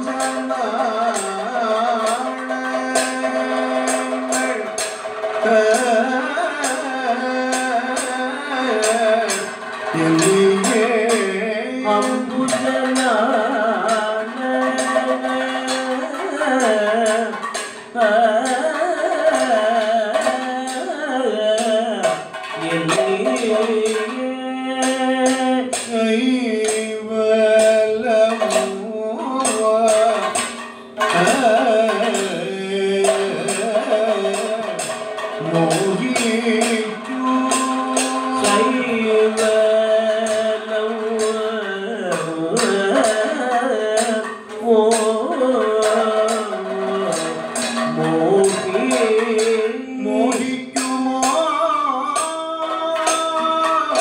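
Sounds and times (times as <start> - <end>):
barrel drum: 0.0 - 54.0
man singing long gliding notes: 0.0 - 54.0
sharp percussion strokes: 0.0 - 54.0.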